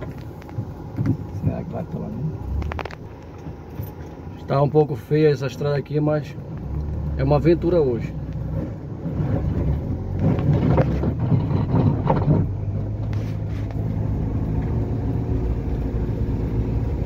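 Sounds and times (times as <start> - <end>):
tyres on muddy dirt road: 0.0 - 17.0
vehicle engine running: 0.0 - 17.0.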